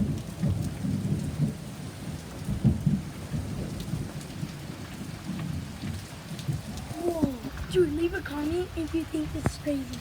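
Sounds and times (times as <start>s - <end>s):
heavy rain pouring: 0.0s - 10.0s
thunder rumbling: 0.0s - 10.0s.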